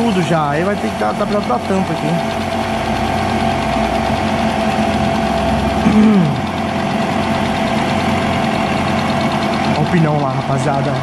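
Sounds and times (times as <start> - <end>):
milling machine hum: 0.0 - 11.0.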